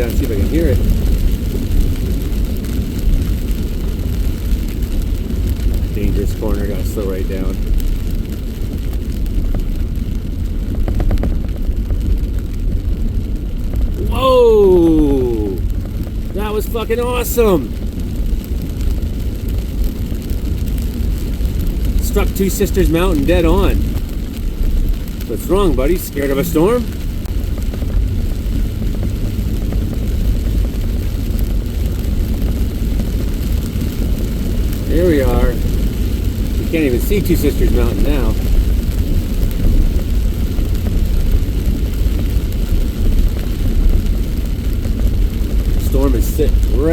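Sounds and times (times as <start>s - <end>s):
road and wind rumble: 0.0s - 46.9s.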